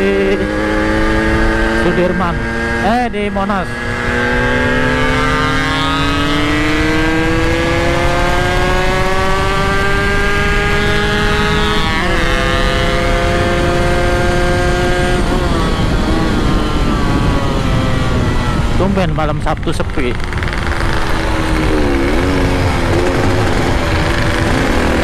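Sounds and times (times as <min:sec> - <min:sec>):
two-stroke motorcycle engine: 0:00.0 - 0:25.0
wind and road noise: 0:00.0 - 0:25.0.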